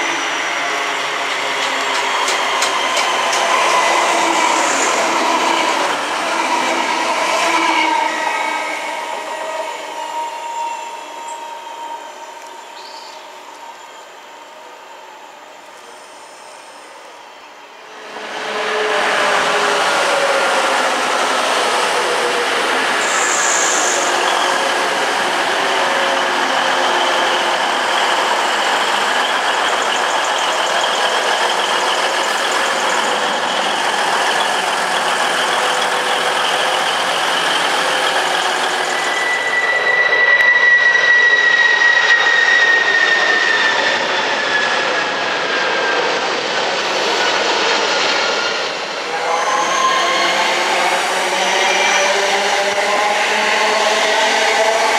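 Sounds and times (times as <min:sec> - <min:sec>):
jet aircraft whine: 0:00.0 - 0:54.9
train passing rumble: 0:00.0 - 0:54.9.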